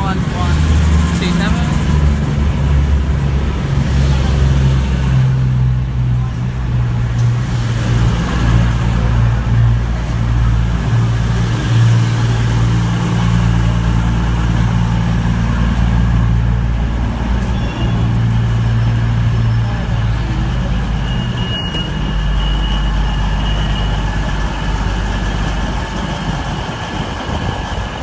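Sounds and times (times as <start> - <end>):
diesel train engines droning: 0.0 - 28.0.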